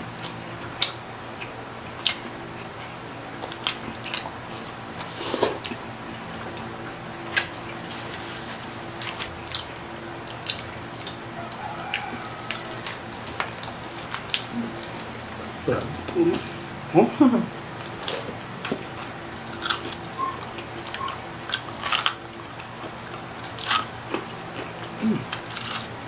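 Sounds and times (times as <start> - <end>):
low steady hum: 0.0 - 26.0
chewing crispy fried food: 0.1 - 26.0.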